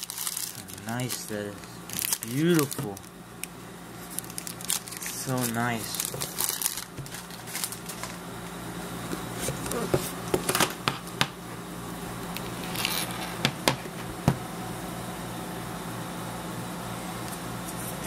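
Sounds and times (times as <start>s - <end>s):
low electrical buzz: 0.0s - 18.0s.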